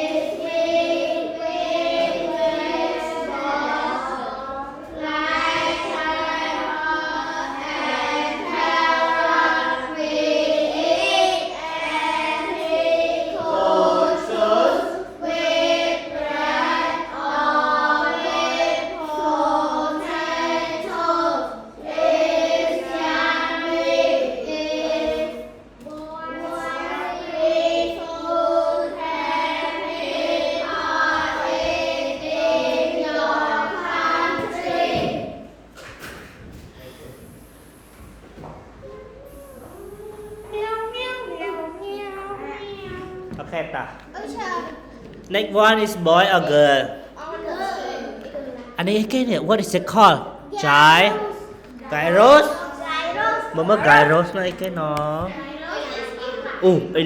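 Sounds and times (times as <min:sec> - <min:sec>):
children reading aloud in unison: 0:00.0 - 0:57.0.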